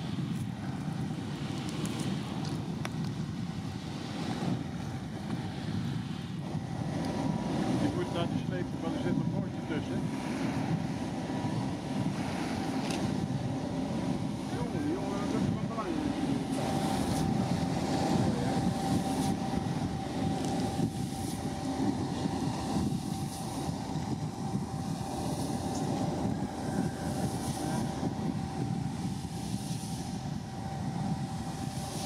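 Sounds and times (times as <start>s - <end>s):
ship engines droning: 0.0s - 32.0s
wind: 0.0s - 32.0s.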